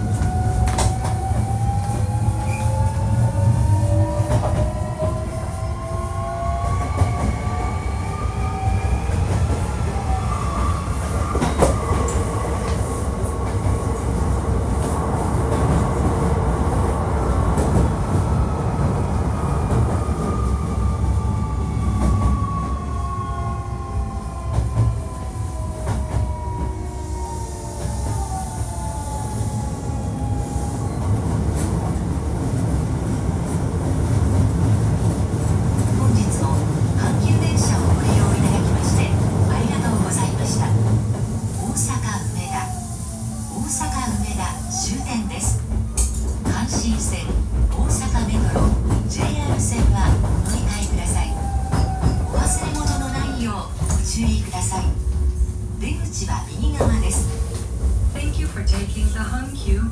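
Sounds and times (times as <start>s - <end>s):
rail joint clicks: 0.0s - 5.8s, 6.6s - 20.6s, 30.3s - 59.9s
wheels rumbling on rail: 0.0s - 59.9s.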